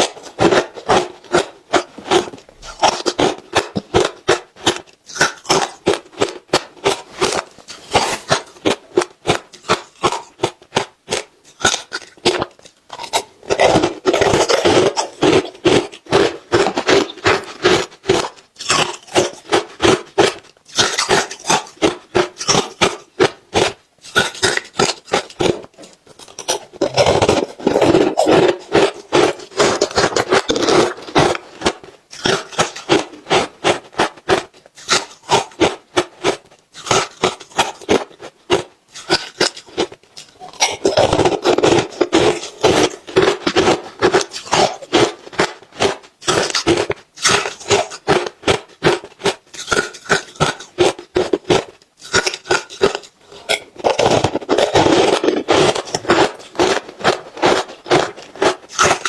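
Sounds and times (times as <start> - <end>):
ice crunching between teeth: 0.0 - 59.0.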